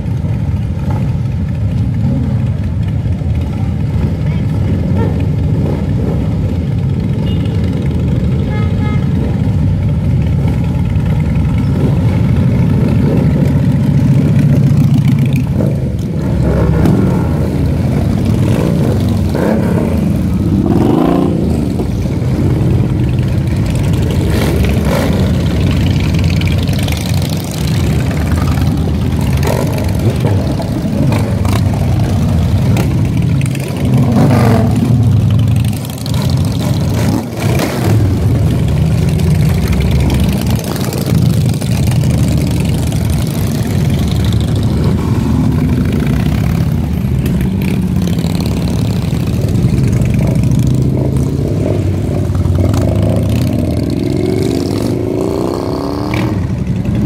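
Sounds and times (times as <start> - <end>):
motorcycles riding past: 0.0 - 57.0
riders revving engines: 0.0 - 57.0.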